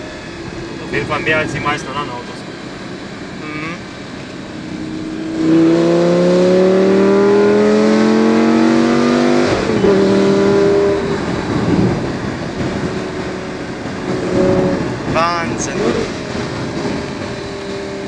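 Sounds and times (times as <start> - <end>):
sports car engine accelerating: 0.0 - 18.0.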